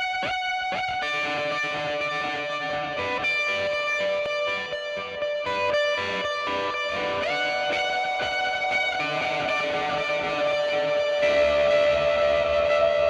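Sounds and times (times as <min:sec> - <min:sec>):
electric guitar rhythm: 0:00.0 - 0:13.0.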